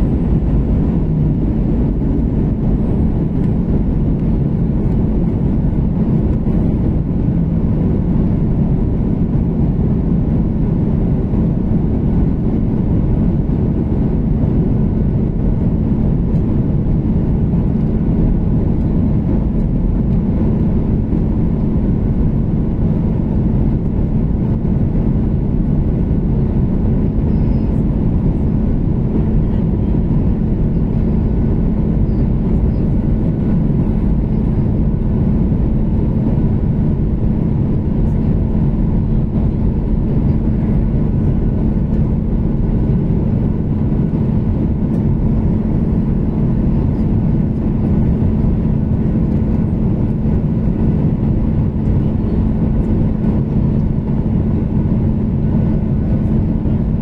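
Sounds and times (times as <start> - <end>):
constant low hum: 0.0 - 57.0
jet engine drone: 0.0 - 57.0
rushing airflow: 0.0 - 57.0.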